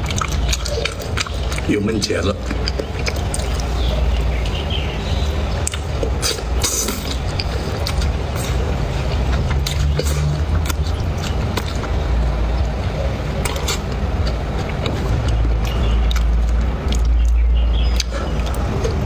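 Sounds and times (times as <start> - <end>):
chewing crunches: 0.0 - 19.0
steady low rumble: 0.0 - 19.0.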